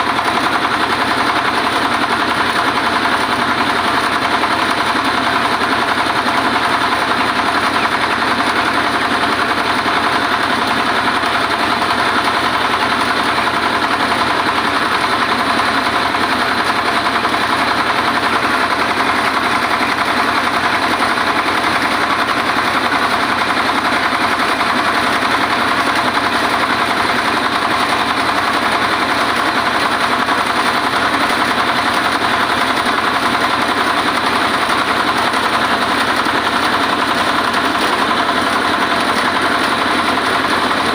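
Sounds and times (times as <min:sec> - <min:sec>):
rice milling machine running: 0:00.0 - 0:40.9.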